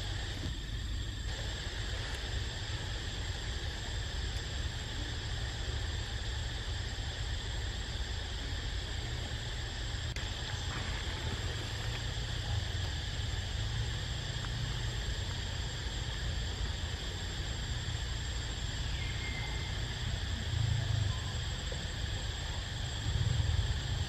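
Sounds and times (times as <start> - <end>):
insect chorus drone: 0.0 - 24.0.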